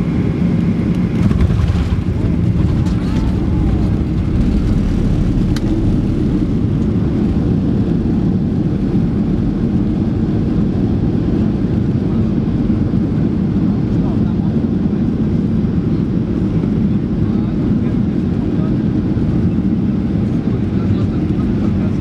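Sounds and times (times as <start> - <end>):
jet cabin low rumble: 0.0 - 22.0.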